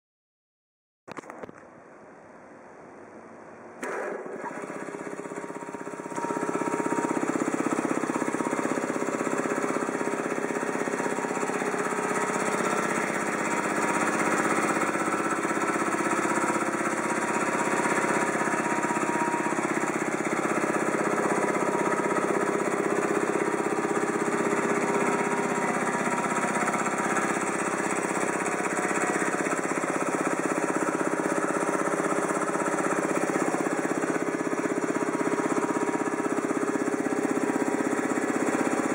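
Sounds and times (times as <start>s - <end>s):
air compressor chugging: 3.8s - 38.9s.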